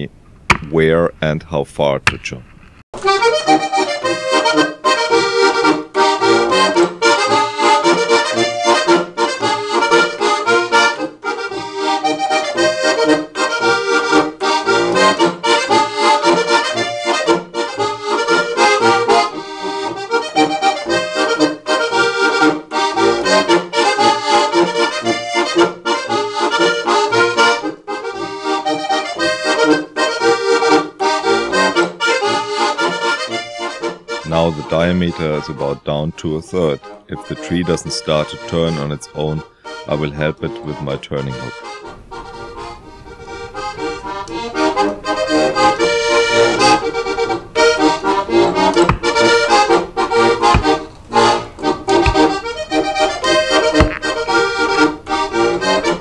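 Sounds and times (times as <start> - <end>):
button accordion folk dance tune: 3.0 - 56.0.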